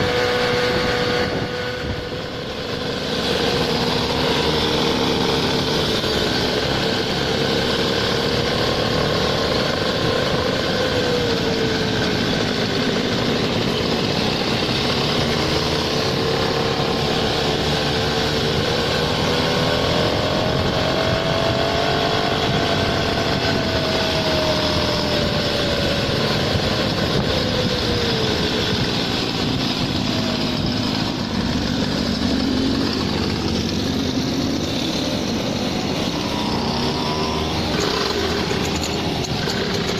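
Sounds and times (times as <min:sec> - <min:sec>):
motor scooter engine running: 0:00.0 - 0:39.9.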